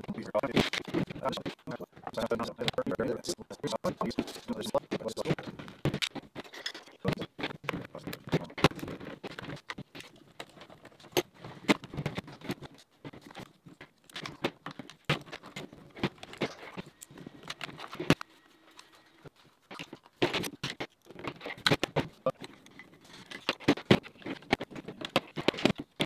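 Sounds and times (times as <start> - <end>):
plastic parts clicking and rattling: 0.0 - 26.0.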